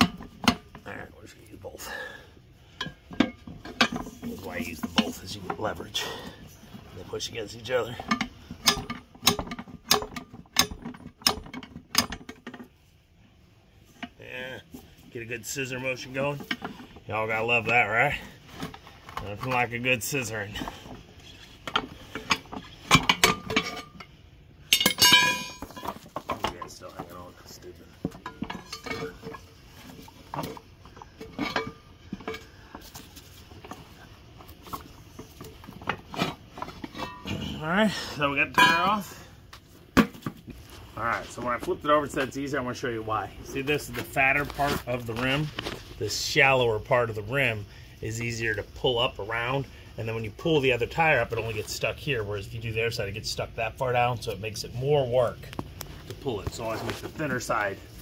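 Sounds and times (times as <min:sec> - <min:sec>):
tire irons clanking on metal rim: 0:00.0 - 0:12.9, 0:15.2 - 0:58.0.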